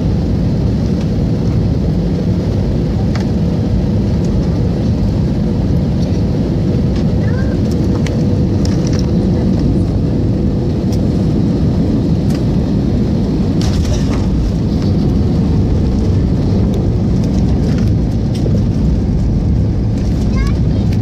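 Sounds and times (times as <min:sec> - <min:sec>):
jet engine rumble and rushing air: 0:00.0 - 0:21.0.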